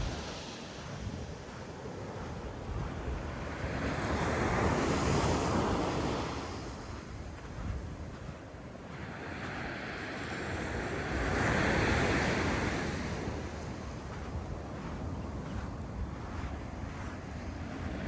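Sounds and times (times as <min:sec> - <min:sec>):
ocean waves breaking on beach: 0:00.0 - 0:18.0
wind rumbling on microphone: 0:00.0 - 0:18.0.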